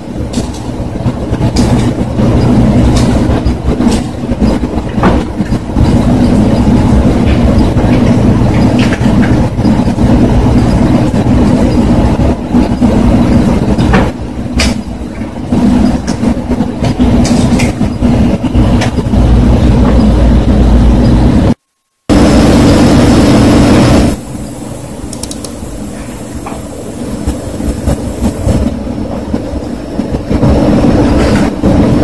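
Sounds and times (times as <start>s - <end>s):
loud rumbling with low hum: 0.0s - 32.0s.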